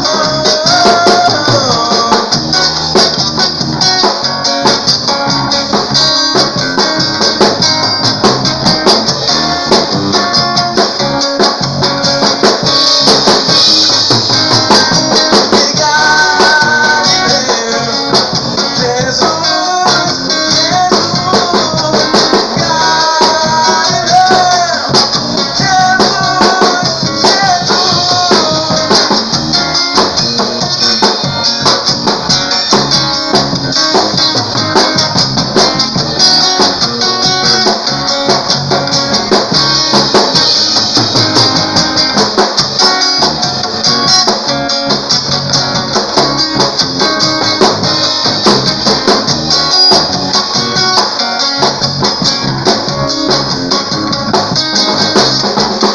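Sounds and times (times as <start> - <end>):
drums: 0.0 - 55.9
guitar: 0.0 - 55.9.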